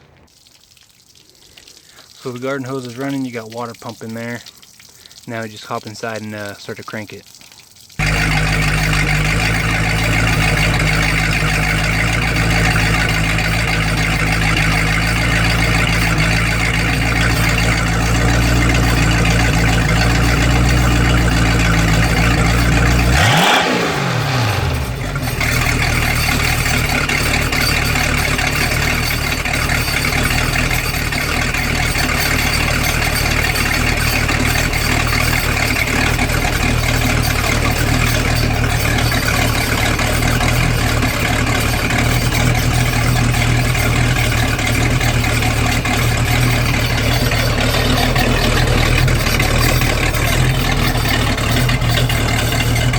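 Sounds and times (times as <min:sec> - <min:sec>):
boat engine running: 0:08.0 - 0:52.9.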